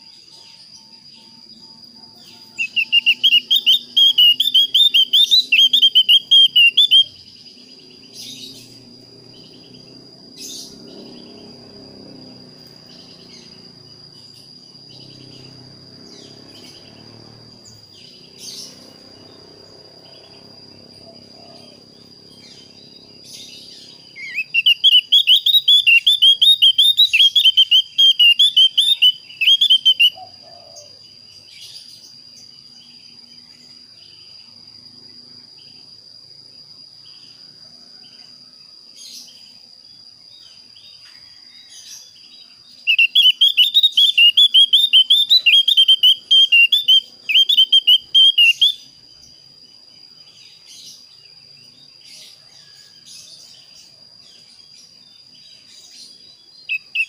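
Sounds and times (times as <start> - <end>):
bird warbling song: 0.0 - 34.2, 40.4 - 49.3, 50.2 - 57.0.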